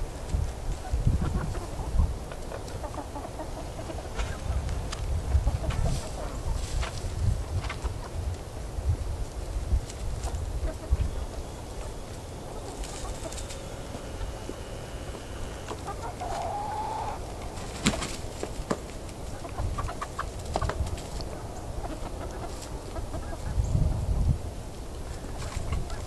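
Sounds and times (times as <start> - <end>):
hens clucking: 0.7 - 8.3, 9.9 - 23.6, 25.1 - 26.0.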